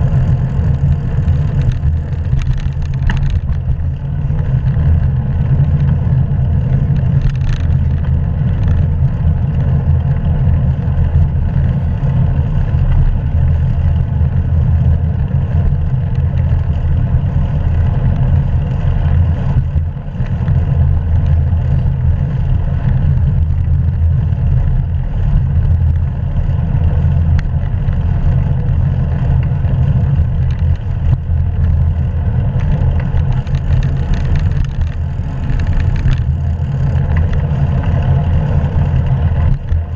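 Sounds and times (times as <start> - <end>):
road noise: 0.0 - 39.9
wind buffeting camera microphone: 0.0 - 39.9.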